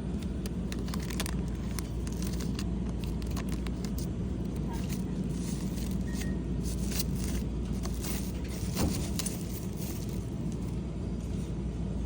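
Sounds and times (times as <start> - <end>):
steady low hum: 0.0 - 12.0
packaging clicks and rustles: 0.1 - 10.8.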